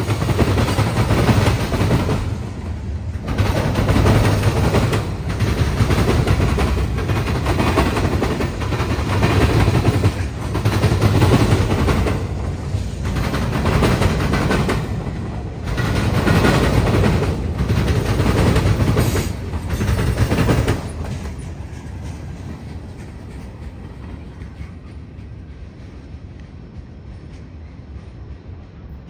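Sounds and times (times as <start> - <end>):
freight train wheels clattering: 0.0 - 29.0.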